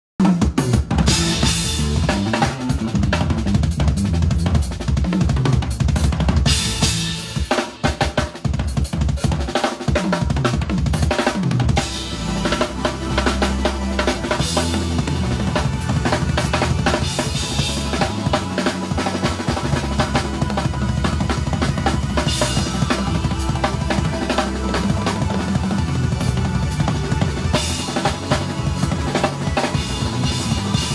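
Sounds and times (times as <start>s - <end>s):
drum kit groove: 0.2s - 30.9s.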